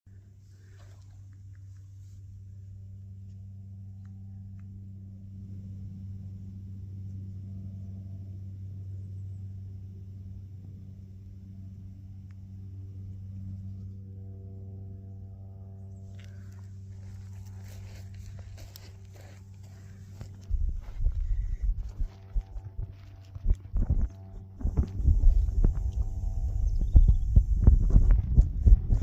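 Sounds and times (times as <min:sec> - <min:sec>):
low-pitched hum: 0:00.1 - 0:29.0.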